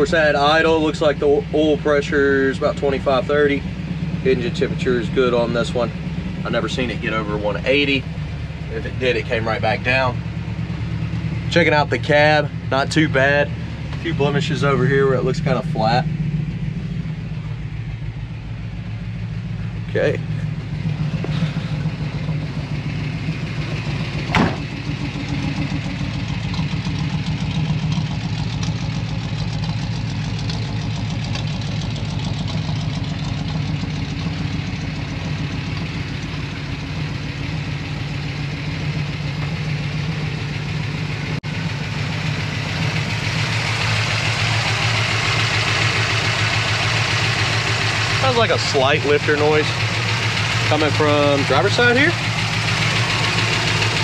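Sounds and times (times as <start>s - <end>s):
car engine idling: 0.0s - 54.0s
engine lifter ticking: 0.0s - 54.0s.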